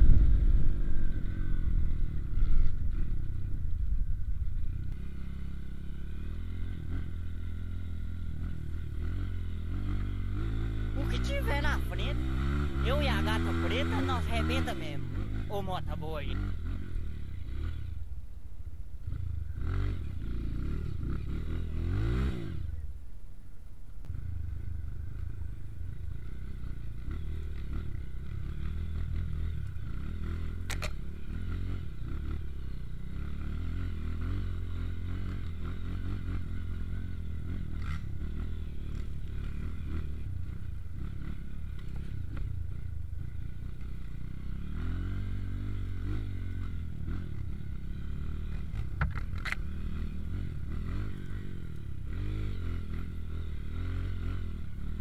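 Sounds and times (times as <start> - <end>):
motorcycle engine revving: 0.0 - 23.0, 24.0 - 55.0.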